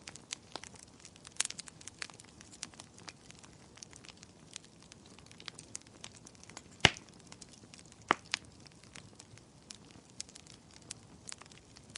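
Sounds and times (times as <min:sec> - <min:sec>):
firewood crackling and popping: 0:00.0 - 0:11.9.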